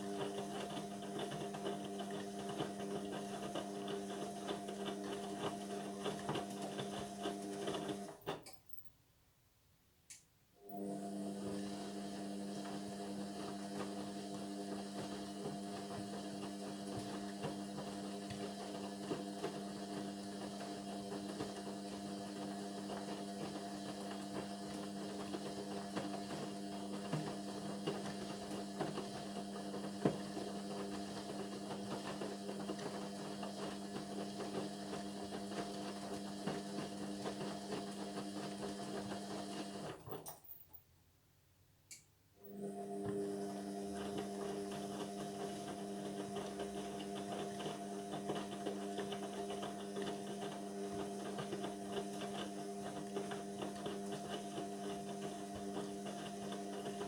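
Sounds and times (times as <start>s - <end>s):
washing machine motor hum: 0.0s - 8.4s, 10.6s - 40.3s, 42.4s - 57.0s.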